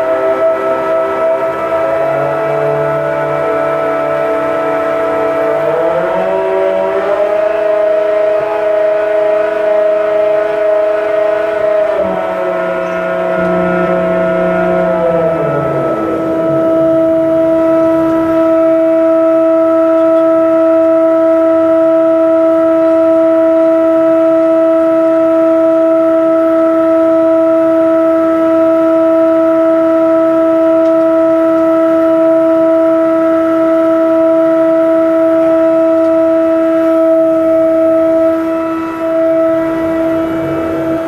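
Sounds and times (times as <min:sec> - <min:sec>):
crane machinery whine: 0:00.0 - 0:41.0.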